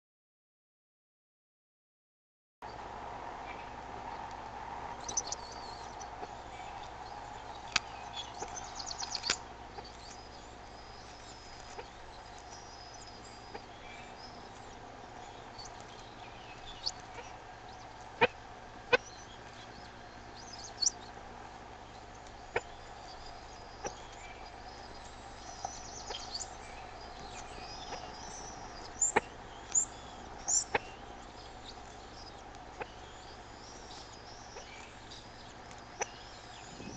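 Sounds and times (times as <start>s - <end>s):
outdoor background hum: 2.6s - 36.9s
high bird chirps: 5.0s - 21.2s, 21.9s - 36.9s.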